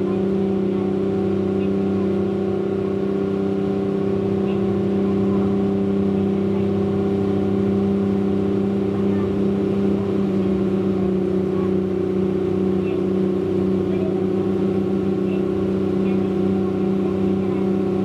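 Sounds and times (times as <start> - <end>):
ferry engine droning: 0.0 - 18.0.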